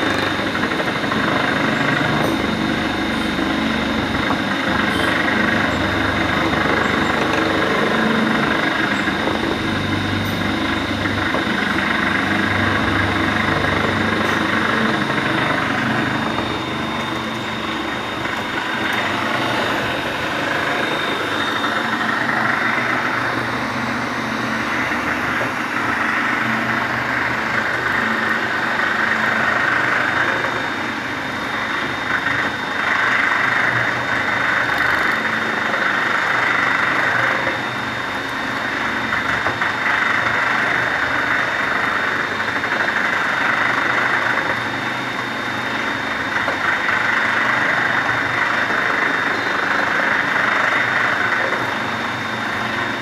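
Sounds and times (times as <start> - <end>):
machine mechanical din: 0.0 - 53.0
thin high whine: 0.0 - 53.0.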